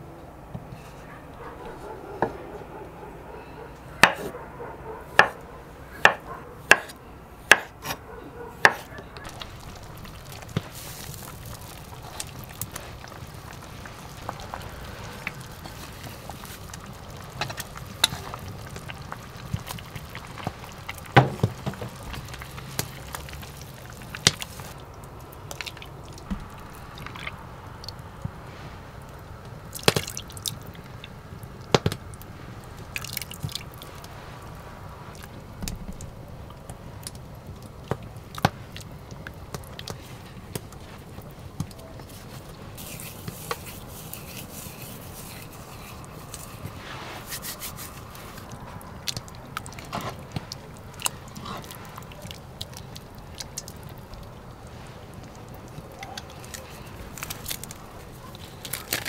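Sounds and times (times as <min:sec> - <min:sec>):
liquid dripping and pouring: 0:09.2 - 0:59.0.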